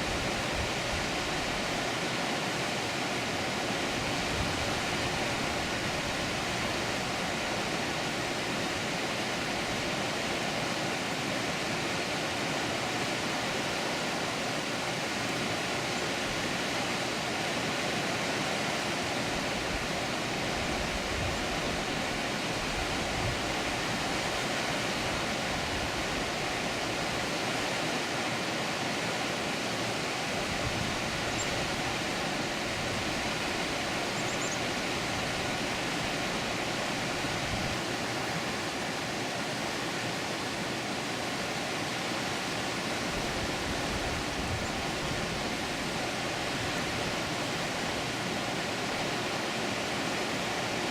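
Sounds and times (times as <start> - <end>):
water rushing over a dam: 0.0 - 50.9.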